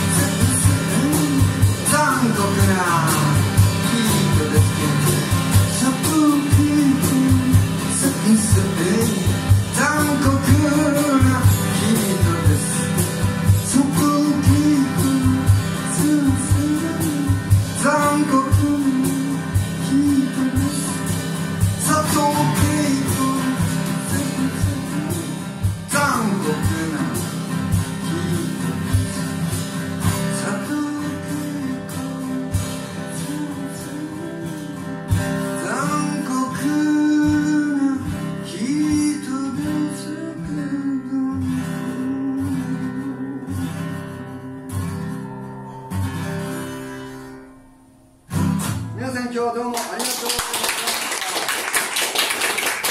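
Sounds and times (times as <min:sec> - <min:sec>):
percussion: 0:00.0 - 0:40.8, 0:49.7 - 0:52.9
man singing: 0:00.0 - 0:45.1
strummed acoustic guitar: 0:00.0 - 0:49.7.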